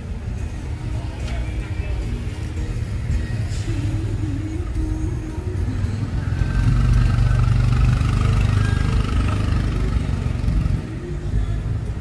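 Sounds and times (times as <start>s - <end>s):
street traffic passing: 0.0s - 12.0s
vehicle engine running: 2.3s - 12.0s.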